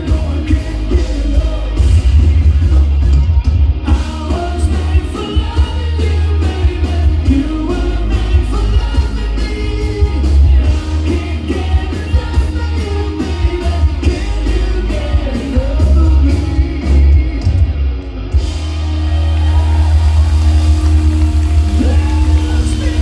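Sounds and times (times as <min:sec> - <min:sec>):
lead vocalist singing: 0:00.0 - 0:17.8, 0:21.6 - 0:23.0
live rock band playing: 0:00.0 - 0:23.0.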